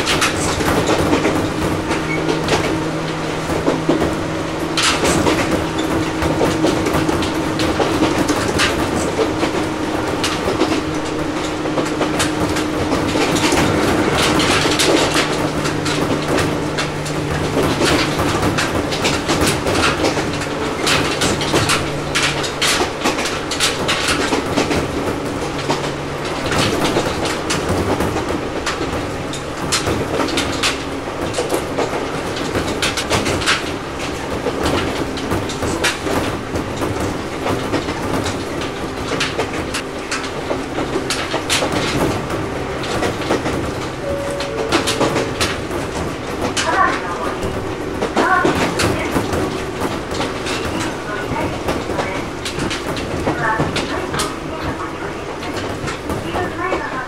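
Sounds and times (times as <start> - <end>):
electric train motor hum: 0.0 - 57.0
wheels clattering over rail joints: 0.0 - 57.0.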